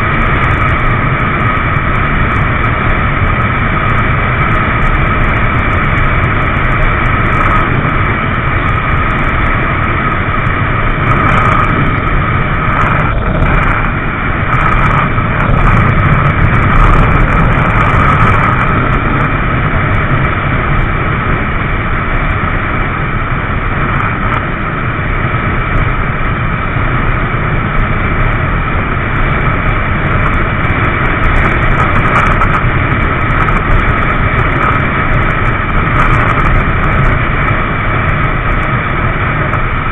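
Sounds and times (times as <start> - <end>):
motorcycle engine drone: 0.0 - 39.9
rushing wind noise: 0.0 - 39.9.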